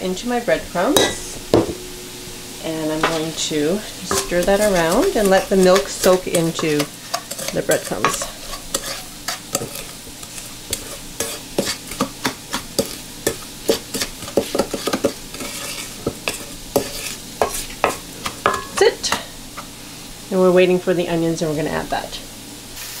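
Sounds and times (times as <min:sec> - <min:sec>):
spoon scraping metal bowl: 0:00.7 - 0:19.7.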